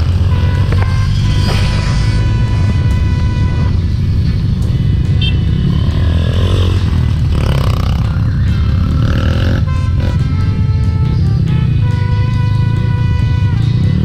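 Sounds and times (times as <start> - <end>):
background music: 0.0 - 14.0
motorcycle engine running: 0.0 - 14.0.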